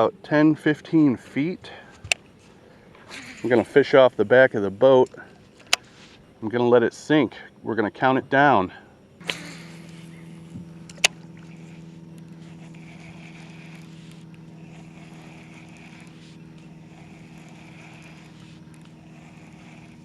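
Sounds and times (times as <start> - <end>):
small electric motor humming: 2.0 - 6.8, 8.3 - 20.0.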